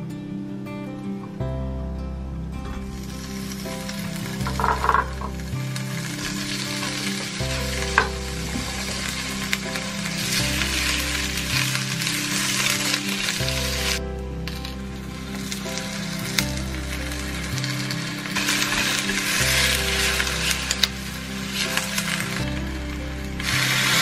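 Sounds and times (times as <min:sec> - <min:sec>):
fish cakes sizzling in oil: 0:02.9 - 0:24.0.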